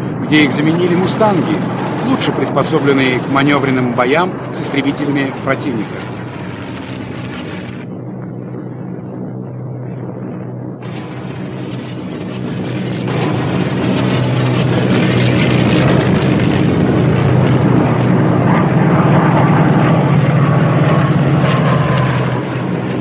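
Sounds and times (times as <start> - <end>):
propeller aircraft droning: 0.0 - 23.0.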